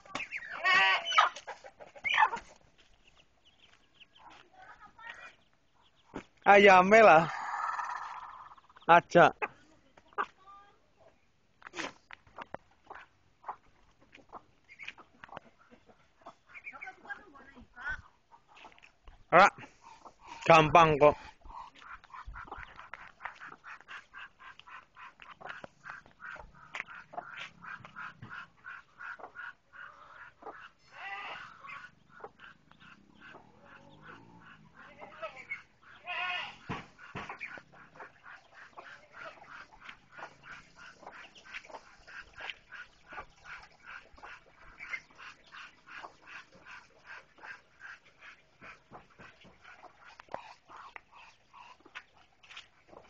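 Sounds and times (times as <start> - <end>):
ducklings peeping: 0.0 - 10.4, 11.8 - 53.0.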